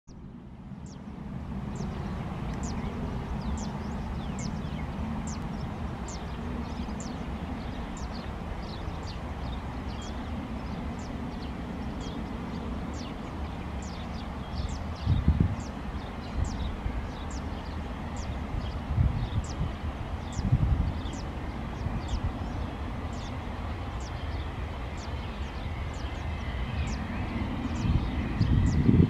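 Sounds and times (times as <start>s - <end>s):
small birds chirping: 0.0s - 29.0s
distant jet engines rumbling: 0.1s - 29.0s.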